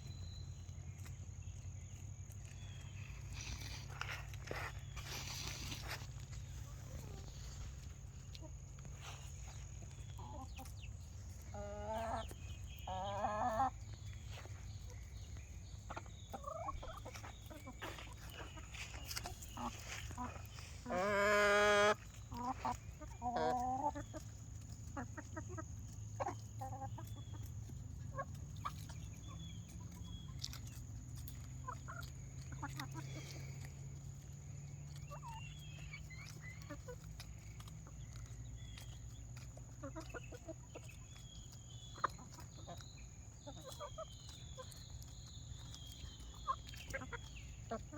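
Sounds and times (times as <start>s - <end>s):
chickens clucking and calling: 0.0s - 47.9s.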